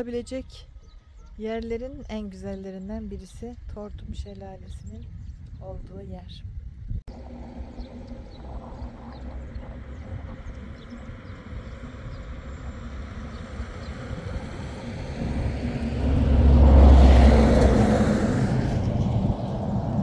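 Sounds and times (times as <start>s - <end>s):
vehicle engine and tyre rumble: 3.6s - 20.0s.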